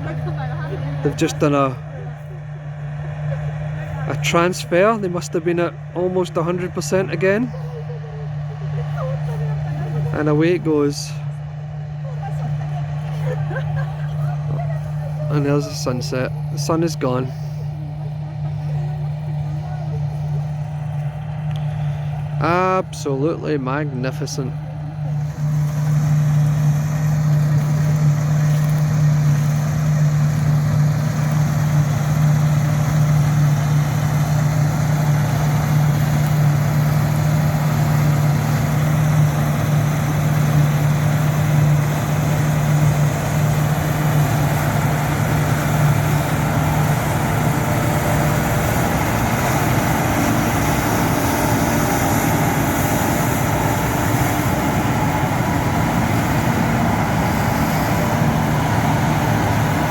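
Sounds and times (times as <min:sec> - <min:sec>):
diesel farm machinery running: 0:00.0 - 0:59.9.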